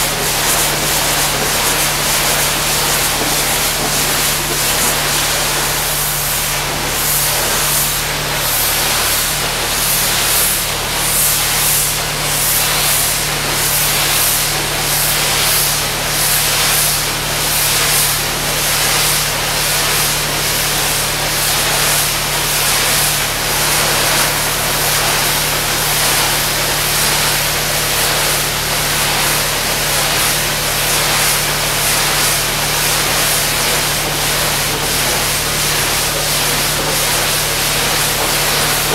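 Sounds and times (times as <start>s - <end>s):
pressure washer water jet hissing: 0.0s - 38.9s.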